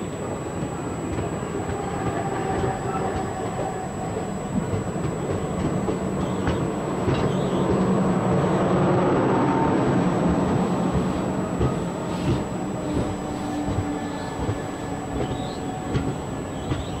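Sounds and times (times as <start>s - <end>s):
train wheels rumbling on track: 0.0s - 17.0s
sharp clicks over rails: 0.6s - 17.0s.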